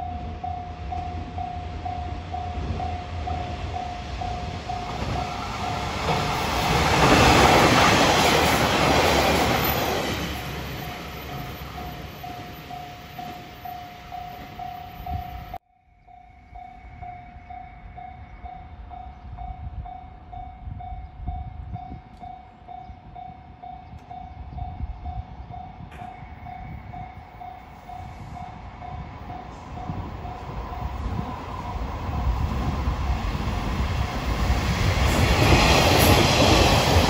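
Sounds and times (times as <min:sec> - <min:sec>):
level-crossing warning bell: 0:00.0 - 0:37.0
low rumble of a train: 0:00.0 - 0:37.0.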